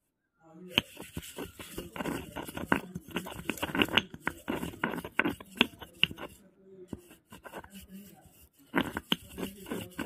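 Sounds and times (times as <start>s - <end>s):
stone pestle grinding in mortar: 0.8s - 6.4s, 7.0s - 10.0s.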